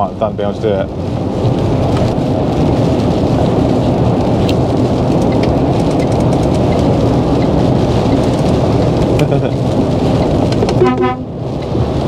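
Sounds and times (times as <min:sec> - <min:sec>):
lorry driving on wet road: 0:00.0 - 0:12.0.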